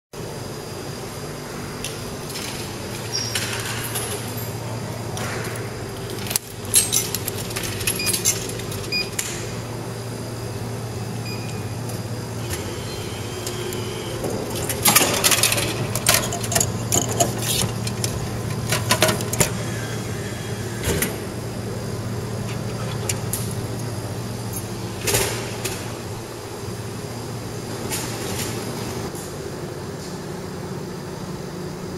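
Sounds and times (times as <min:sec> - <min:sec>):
vending machine humming: 0:00.2 - 0:31.9.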